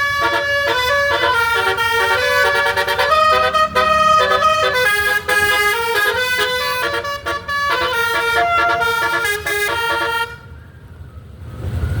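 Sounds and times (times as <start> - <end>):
bus horn playing a tune: 0.0 - 10.6.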